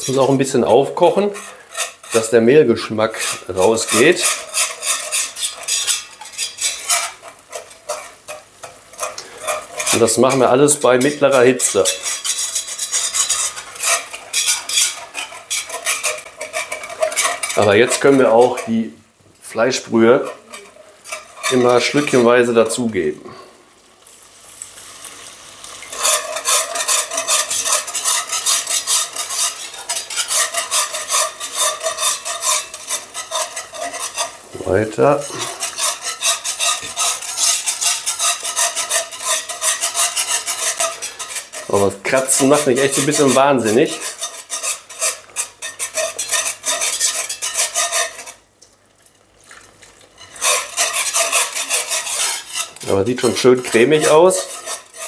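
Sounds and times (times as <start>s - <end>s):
whisk scraping a pot: 0.0s - 23.5s, 25.4s - 55.0s.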